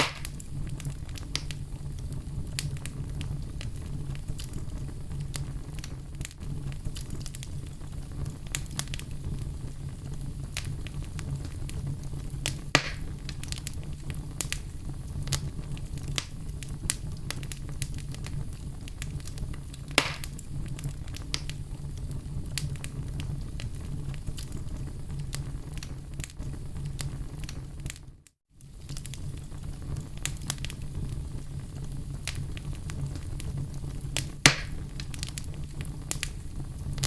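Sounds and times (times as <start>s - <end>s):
fire crackling in a fireplace: 0.0s - 37.0s
fire pops: 0.0s - 37.0s.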